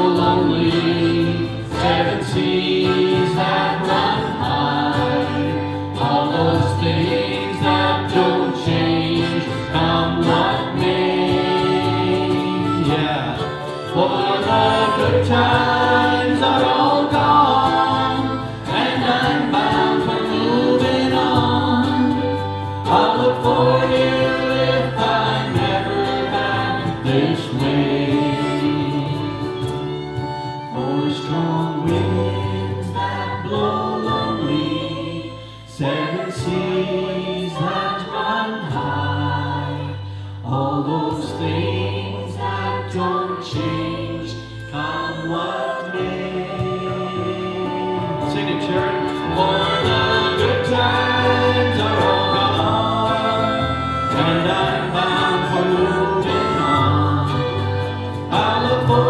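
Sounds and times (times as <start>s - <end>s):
instrumental accompaniment: 0.0s - 59.0s
voices singing a folk song: 0.0s - 59.0s.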